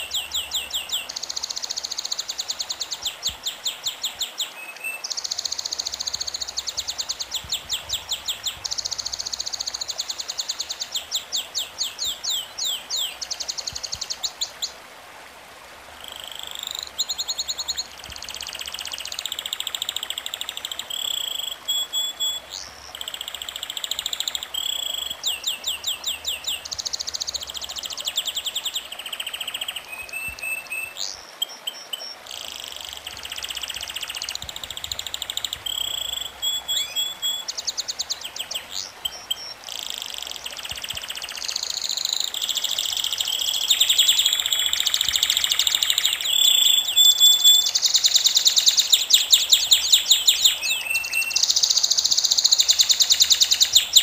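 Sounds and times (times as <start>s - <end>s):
bird chirping trills: 0.0s - 14.7s, 16.0s - 54.0s
faint steady hiss: 0.0s - 54.0s.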